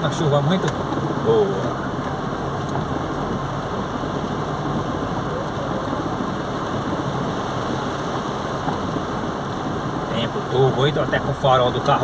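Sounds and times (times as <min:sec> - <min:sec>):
car engine: 0:00.0 - 0:12.0
heavy rain on car roof: 0:00.0 - 0:12.0
tyres rolling on wet road: 0:00.0 - 0:12.0.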